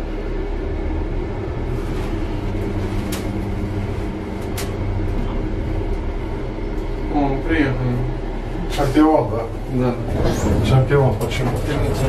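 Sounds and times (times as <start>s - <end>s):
elevator rumble and hum: 0.0s - 12.0s.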